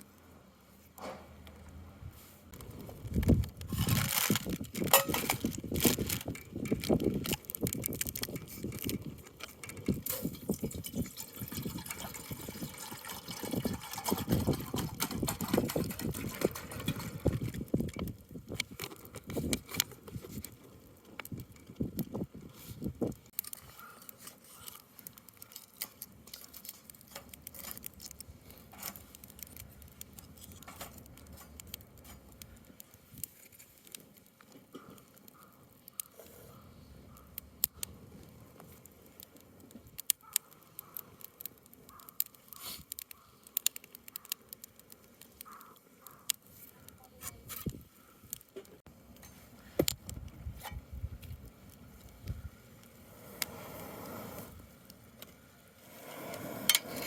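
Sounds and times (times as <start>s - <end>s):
wood fire crackling: 0.0s - 57.0s
sharp pops of burning wood: 2.5s - 57.0s.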